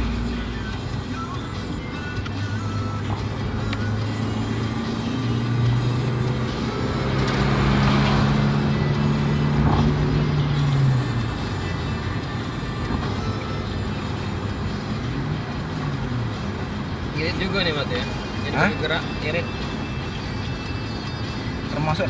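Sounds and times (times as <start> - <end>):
car engine and road hum: 0.0 - 22.0
passing vehicle rushing: 2.5 - 22.0.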